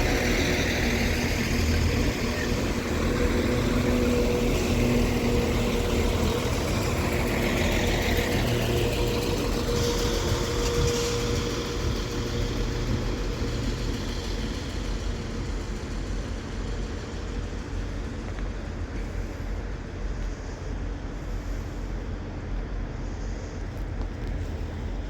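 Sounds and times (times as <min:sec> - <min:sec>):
diesel trains idling: 0:00.0 - 0:25.0
train diesel engines rumbling: 0:00.0 - 0:25.0.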